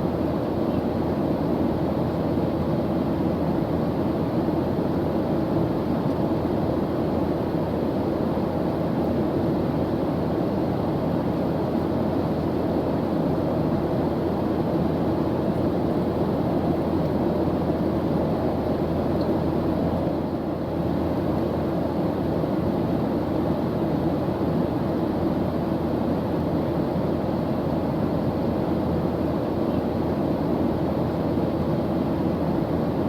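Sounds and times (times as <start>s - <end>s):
airplane engine drone: 0.0s - 33.0s.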